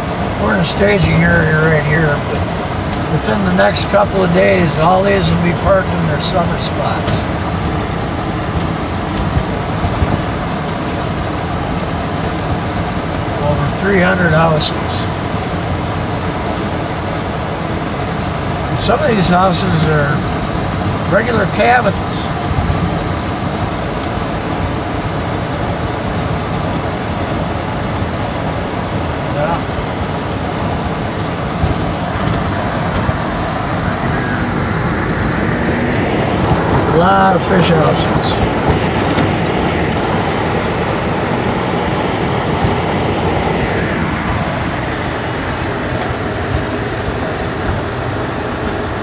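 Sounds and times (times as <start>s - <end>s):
vehicle engine and road rumble: 0.0s - 49.0s.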